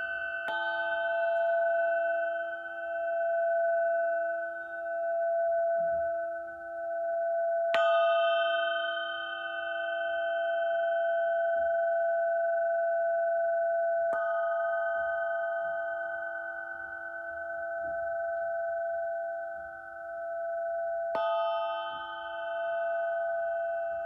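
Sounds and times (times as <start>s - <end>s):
crystal pyramid ringing: 0.0s - 24.0s.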